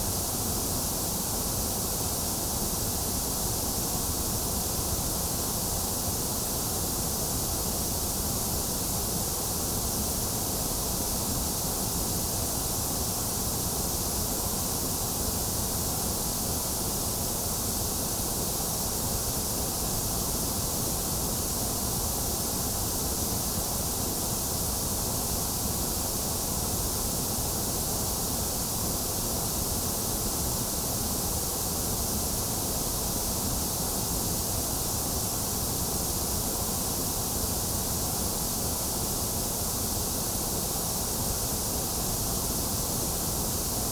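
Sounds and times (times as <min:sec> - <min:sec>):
white noise hiss: 0:00.0 - 0:43.9.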